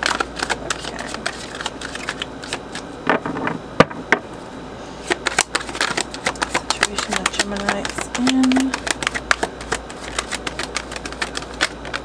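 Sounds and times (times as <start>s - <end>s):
cards being shuffled: 0.0s - 2.9s, 5.0s - 12.0s.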